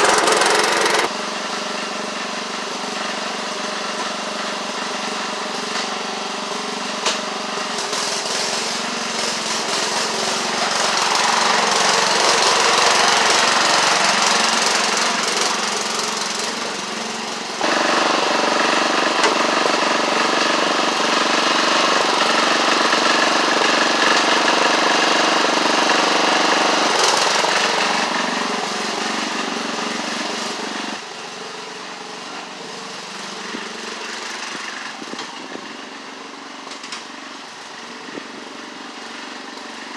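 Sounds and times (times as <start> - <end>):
lawn tractor engine under load: 0.0 - 39.9.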